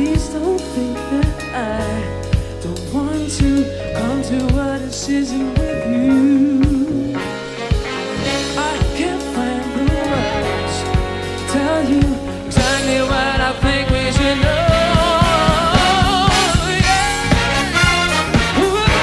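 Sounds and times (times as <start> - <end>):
funk soul big band playing: 0.0 - 19.0
man singing: 0.0 - 19.0
steady drum beat: 0.0 - 19.0.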